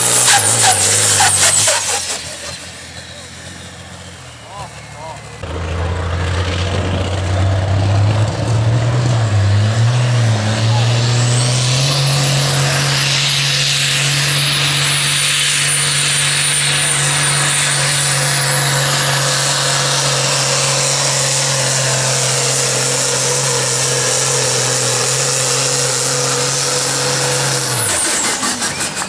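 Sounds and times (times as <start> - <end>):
tractor engine running under load: 2.2 - 29.0.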